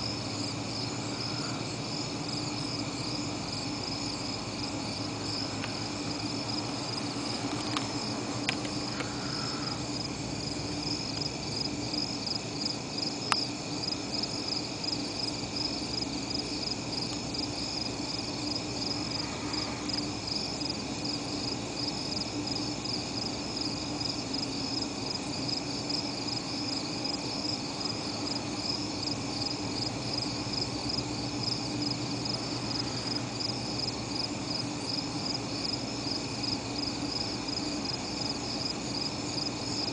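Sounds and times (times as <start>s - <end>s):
insects trilling: 0.0s - 39.9s
low steady hum: 0.0s - 39.9s.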